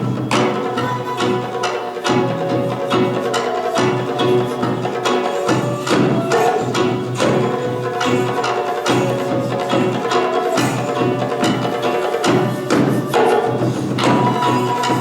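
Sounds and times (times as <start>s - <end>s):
taiko drum strikes: 0.0s - 15.0s.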